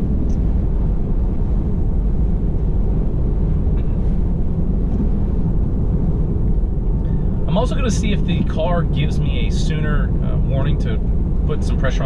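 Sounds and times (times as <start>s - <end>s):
tyre and wind noise in car cabin: 0.0s - 12.0s.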